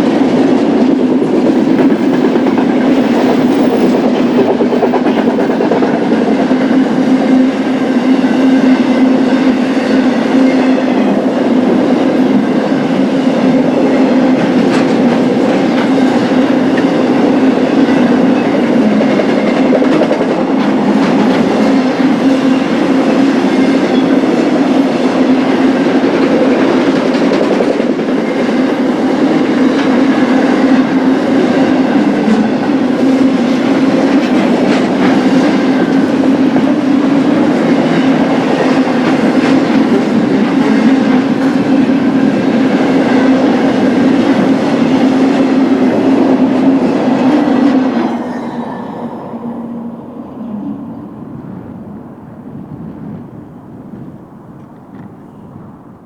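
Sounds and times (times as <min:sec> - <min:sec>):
freight train wheels on rail: 0:00.0 - 0:56.0.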